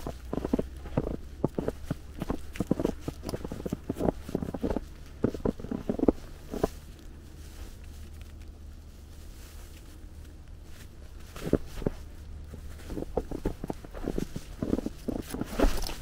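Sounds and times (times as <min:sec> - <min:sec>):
faint low background hum: 0:00.0 - 0:16.0
footsteps crunching in snow: 0:00.0 - 0:16.0.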